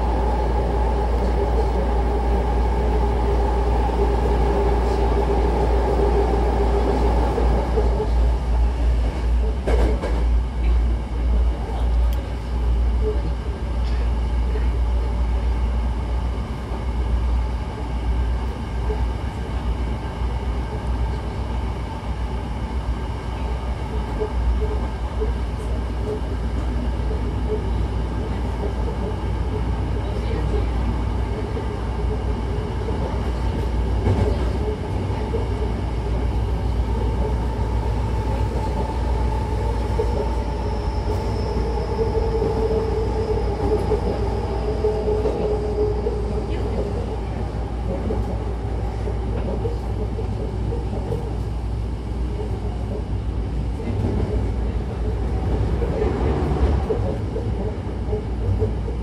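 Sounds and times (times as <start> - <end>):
faint train whine: 0.0 - 59.0
train wheels rumbling on track: 0.0 - 59.0.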